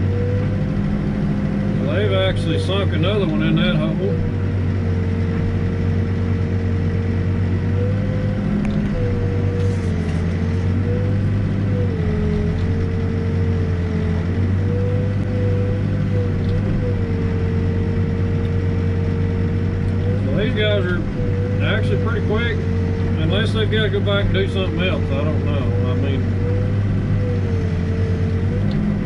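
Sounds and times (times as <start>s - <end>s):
diesel engine drone: 0.0s - 29.0s
hydraulic whine: 0.0s - 29.0s.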